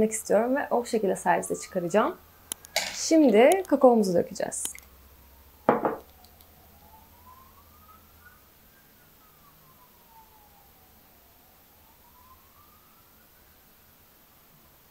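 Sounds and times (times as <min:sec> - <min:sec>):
faint siren wailing: 0:00.0 - 0:14.9.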